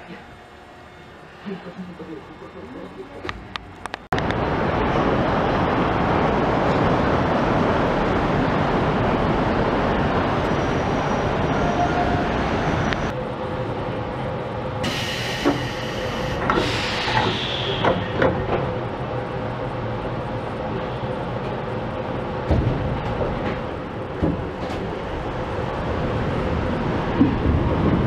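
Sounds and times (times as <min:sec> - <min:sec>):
monorail train rushing: 0:00.0 - 0:28.0
train car humming at station: 0:00.0 - 0:28.0.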